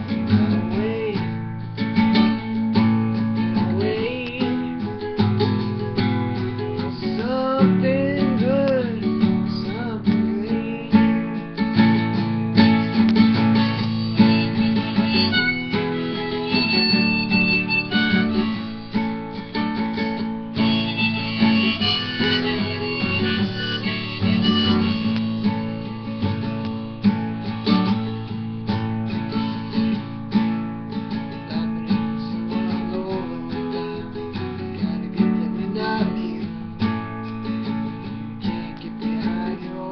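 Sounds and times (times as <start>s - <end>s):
classical guitar playing: 0.0s - 39.9s.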